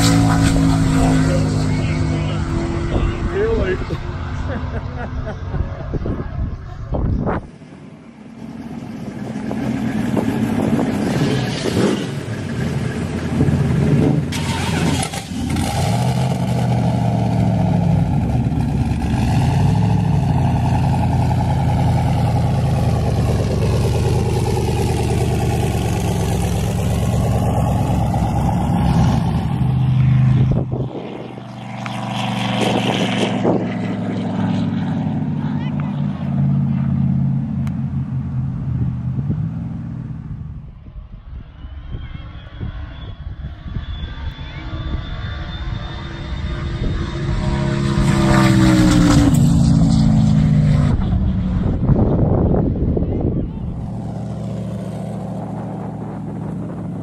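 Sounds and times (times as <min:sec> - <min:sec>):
drag car engines revving: 0:00.0 - 0:40.6, 0:44.2 - 0:57.0.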